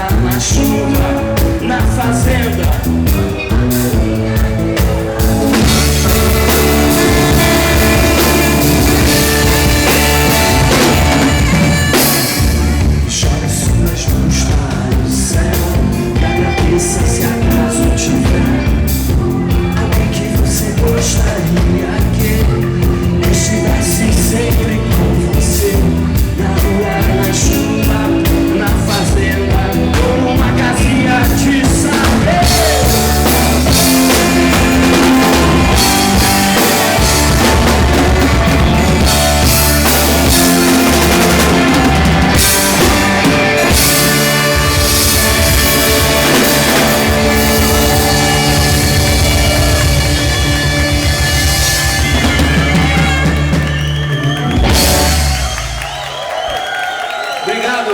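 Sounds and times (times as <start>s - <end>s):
drum kit beat: 0.0s - 56.5s
live rock band playing: 0.0s - 57.7s.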